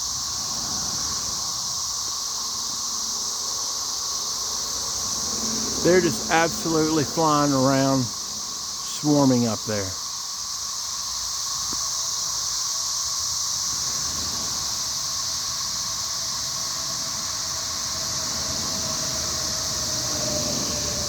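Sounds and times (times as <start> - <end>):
cicadas buzzing drone: 0.0 - 21.0.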